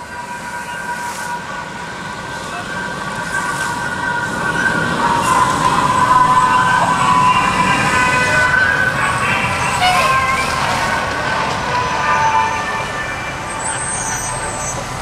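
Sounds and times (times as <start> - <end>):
fire engine sirens: 0.0 - 15.0.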